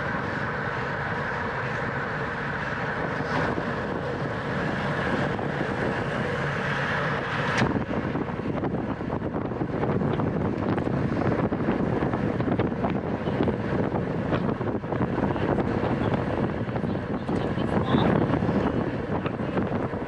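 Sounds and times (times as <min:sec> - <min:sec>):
bicycle tyre and drivetrain noise: 0:00.0 - 0:20.0
wind rushing over microphone: 0:00.0 - 0:20.0.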